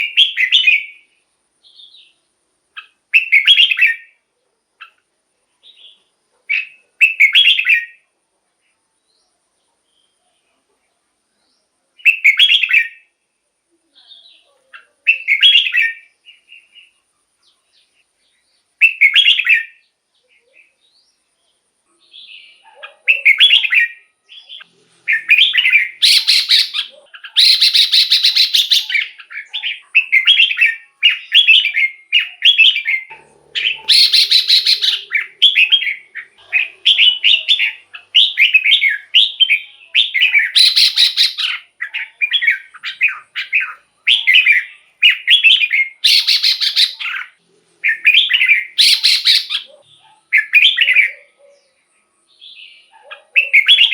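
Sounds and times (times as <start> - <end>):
bird singing warbling phrases: 0.0 - 53.9.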